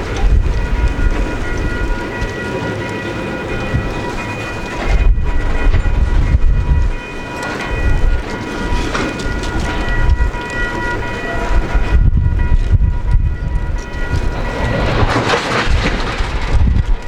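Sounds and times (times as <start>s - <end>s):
steady high-pitched tones: 0.0s - 17.0s
train passing rumble: 0.0s - 17.0s.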